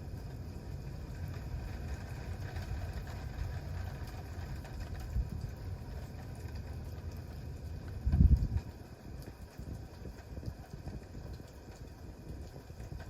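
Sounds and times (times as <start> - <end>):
campfire burning: 0.0 - 13.0.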